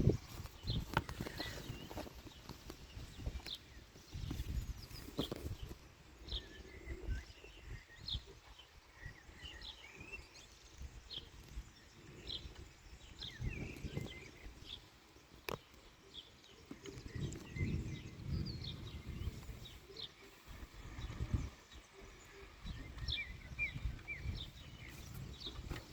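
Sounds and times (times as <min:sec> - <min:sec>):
bird chirping: 0:00.0 - 0:25.9.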